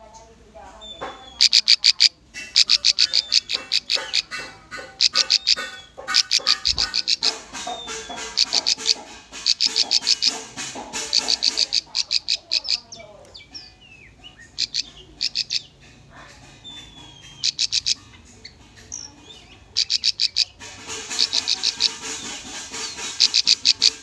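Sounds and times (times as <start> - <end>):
bird song of sharp chips: 0.1 - 24.0.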